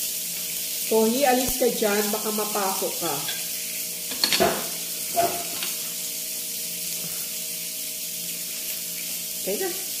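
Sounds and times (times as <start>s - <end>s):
food sizzling on grill pan: 0.0s - 10.0s.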